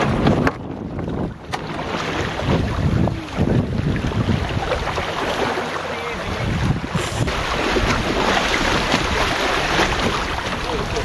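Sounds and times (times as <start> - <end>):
water slapping along a hull: 0.0 - 11.0
wind buffeting microphone: 0.0 - 11.0.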